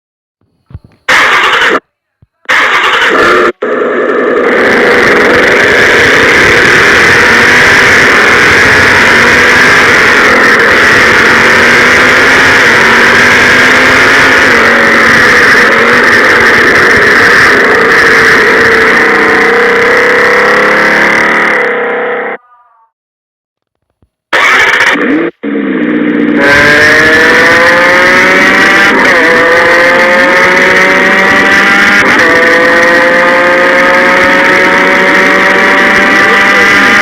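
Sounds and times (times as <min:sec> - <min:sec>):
car engine running: 0:01.1 - 0:01.8, 0:02.5 - 0:22.4, 0:24.3 - 0:37.0.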